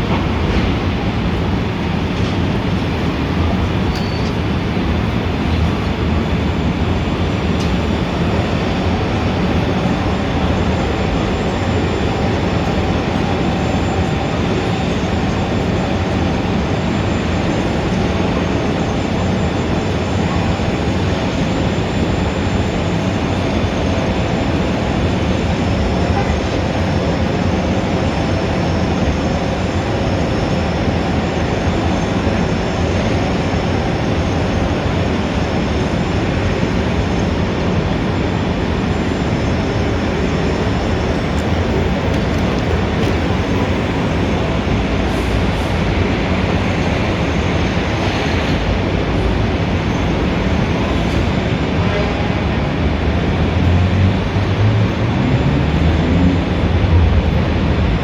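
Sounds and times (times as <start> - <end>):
dense traffic rumble: 0.0 - 58.0.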